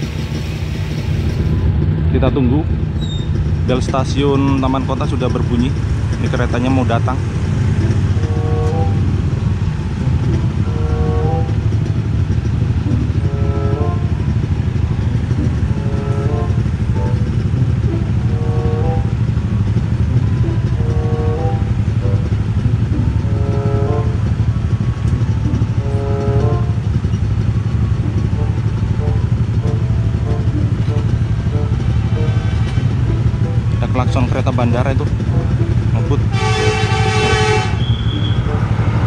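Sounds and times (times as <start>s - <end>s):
motorcycle engines idling: 0.0s - 39.0s
crossing warning alarm tones: 6.8s - 39.0s.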